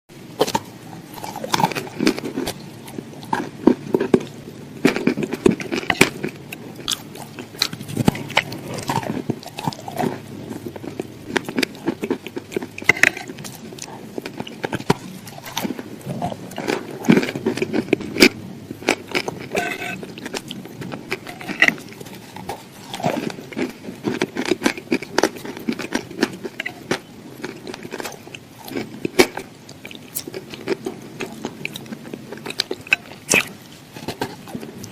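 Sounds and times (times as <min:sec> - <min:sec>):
person chewing crunchy food: 0:00.4 - 0:34.9.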